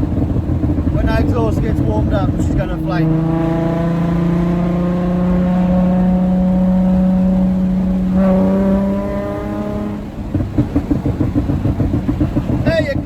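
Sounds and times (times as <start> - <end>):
car engine at high revs: 0.0 - 13.0
exhaust crackling and popping: 0.0 - 13.0.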